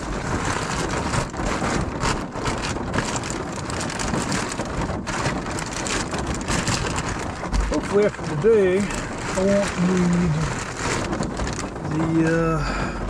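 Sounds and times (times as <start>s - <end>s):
stuff sack rustling: 0.0s - 12.9s
rain on a car roof: 0.0s - 13.0s.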